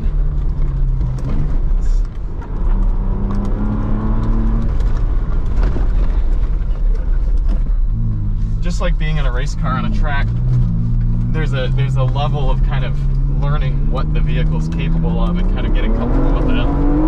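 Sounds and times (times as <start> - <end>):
car engine under load: 0.0 - 17.0
low rumble from rough track: 0.0 - 17.0.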